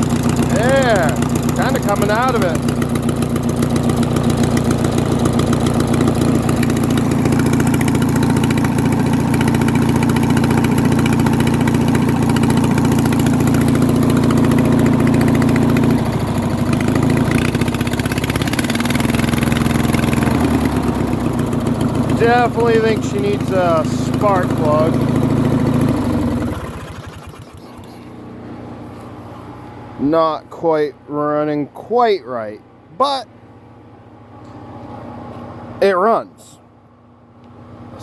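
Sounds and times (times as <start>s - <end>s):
lawn tractor engine running: 0.0s - 32.0s, 36.9s - 38.0s.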